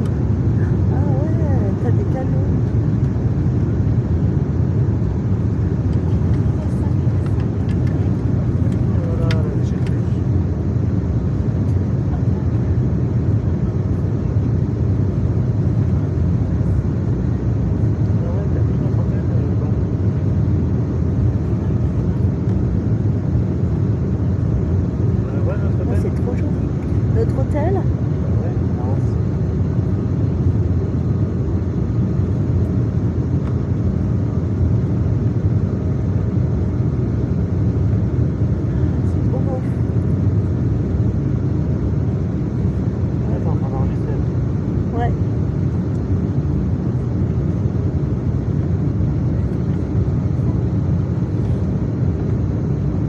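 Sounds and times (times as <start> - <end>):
jet airliner cabin noise: 0.0 - 53.0.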